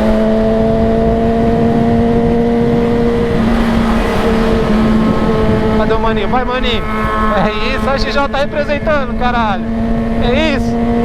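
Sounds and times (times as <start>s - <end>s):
motorcycle engine running: 0.0s - 11.0s
wind rumbling on microphone: 0.0s - 11.0s.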